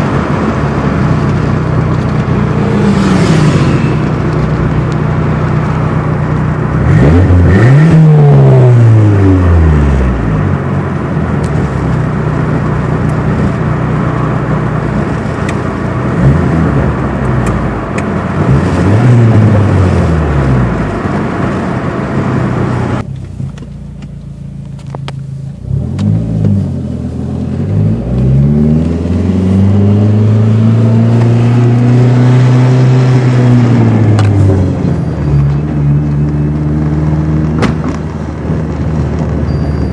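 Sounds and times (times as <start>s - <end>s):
car engine revving: 0.0s - 23.1s, 24.9s - 39.4s.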